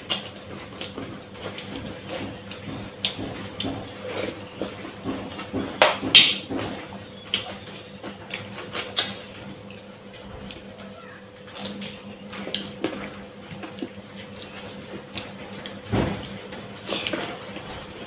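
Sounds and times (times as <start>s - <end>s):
chewing and lip smacks: 0.0s - 5.4s, 7.2s - 17.6s.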